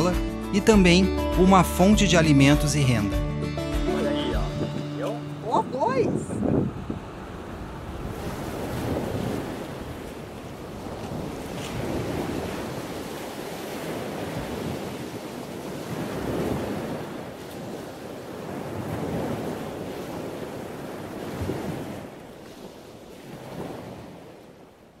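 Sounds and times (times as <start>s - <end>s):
waves washing in: 3.8s - 25.0s
wind: 3.9s - 25.0s.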